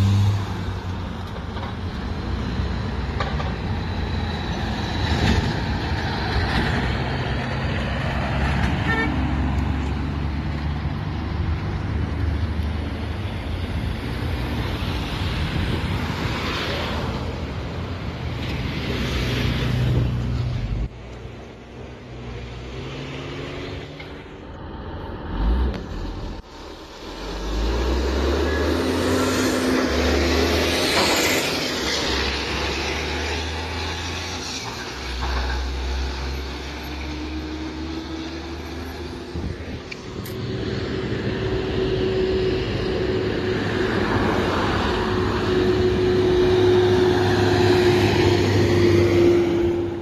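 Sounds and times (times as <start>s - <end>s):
diesel trucks pulling away: 0.0s - 50.0s.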